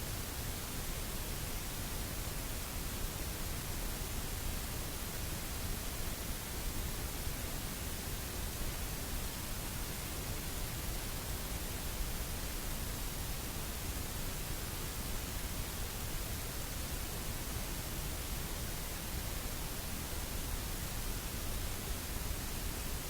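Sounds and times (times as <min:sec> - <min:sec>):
steady static hiss: 0:00.0 - 0:23.0.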